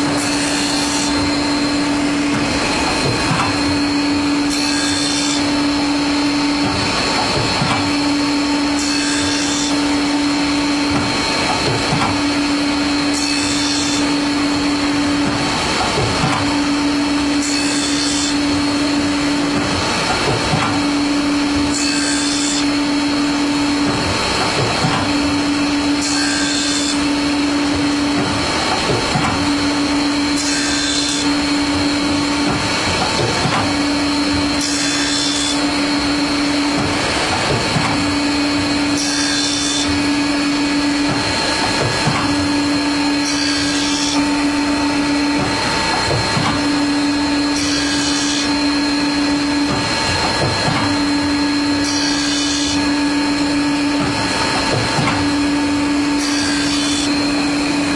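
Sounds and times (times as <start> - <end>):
machine grinding saw blade: 0.0 - 57.9
machine hum: 0.0 - 57.9.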